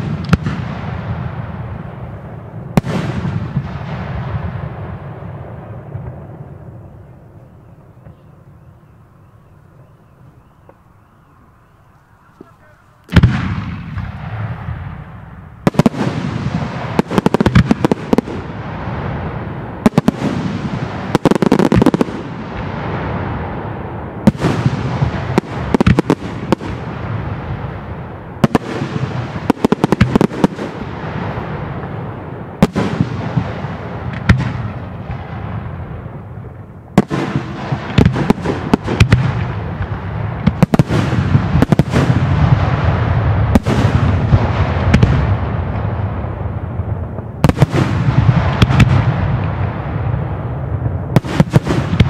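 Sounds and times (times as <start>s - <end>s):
fireworks exploding: 0.0s - 52.0s.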